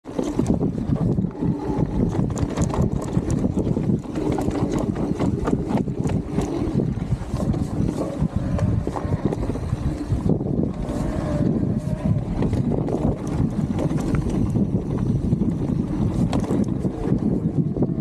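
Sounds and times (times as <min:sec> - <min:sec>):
bike clicks and rattles: 0:00.0 - 0:18.0
tyres rumbling on dirt: 0:00.0 - 0:18.0
wind buffeting microphone: 0:00.0 - 0:18.0.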